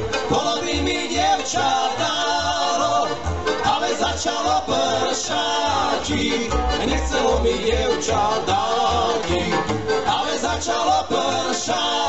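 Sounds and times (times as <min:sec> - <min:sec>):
plucked double bass: 0:00.0 - 0:12.0.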